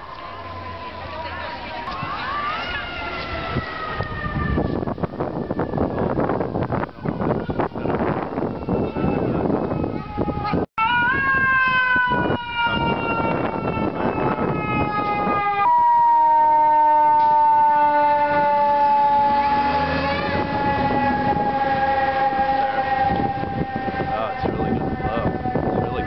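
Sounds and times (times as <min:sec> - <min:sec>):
fire engine siren wailing: 0:00.0 - 0:26.0.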